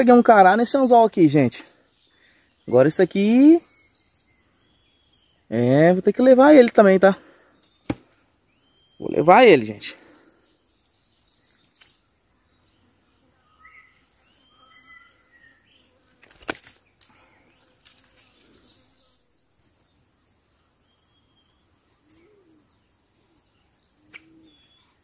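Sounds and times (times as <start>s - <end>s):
faint bird chirps: 1.6s - 5.8s, 7.4s - 25.0s.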